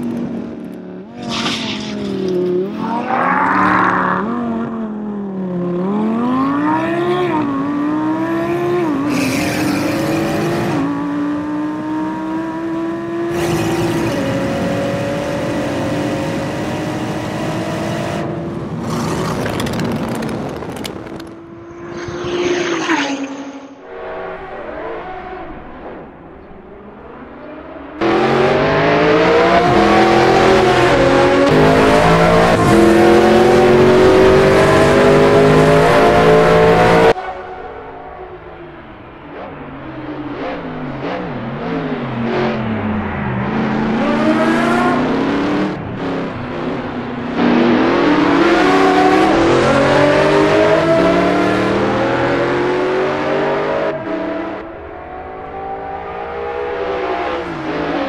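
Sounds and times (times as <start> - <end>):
video game supercar engines: 0.0 - 58.0.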